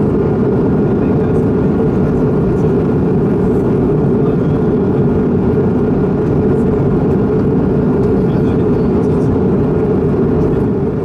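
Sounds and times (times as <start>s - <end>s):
airflow rush: 0.0s - 11.0s
faint steady whine: 0.0s - 11.0s
jet engine drone: 0.0s - 11.0s.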